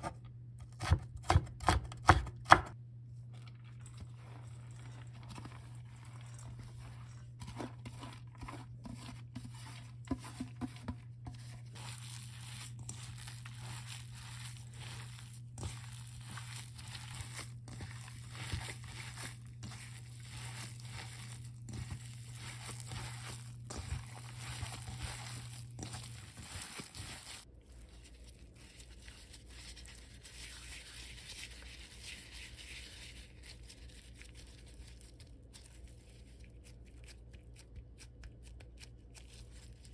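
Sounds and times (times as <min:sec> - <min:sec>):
low steady hum: 0:00.0 - 0:39.9
hands kneading wet meat: 0:02.7 - 0:39.9.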